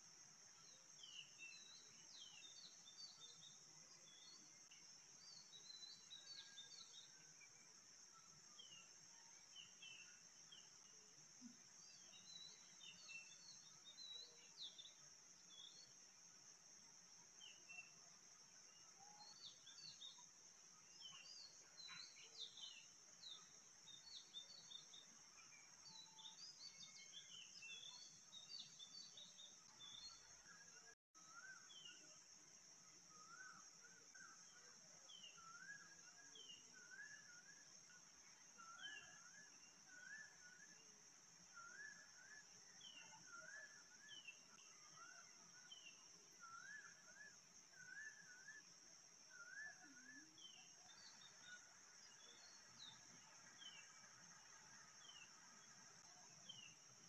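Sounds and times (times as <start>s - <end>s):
faint birds chirping: 0.0s - 57.0s
steady high-pitched hiss: 0.0s - 57.0s.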